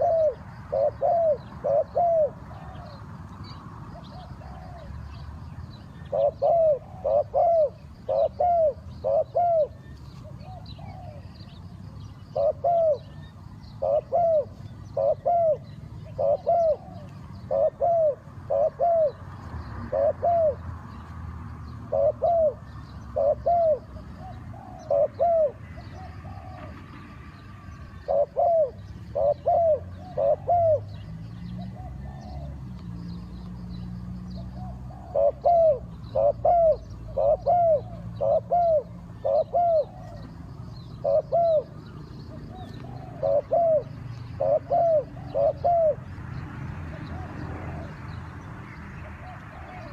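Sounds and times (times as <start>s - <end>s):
dove cooing: 0.0s - 3.1s, 4.0s - 5.2s, 6.0s - 20.6s, 21.8s - 27.0s, 27.9s - 32.6s, 34.4s - 46.2s, 46.9s - 48.0s, 49.1s - 49.9s.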